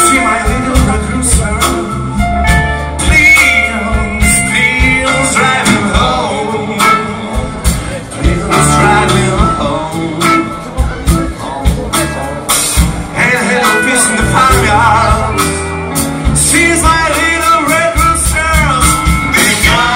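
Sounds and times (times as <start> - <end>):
live blues band: 0.0 - 19.9
man singing: 0.0 - 19.9.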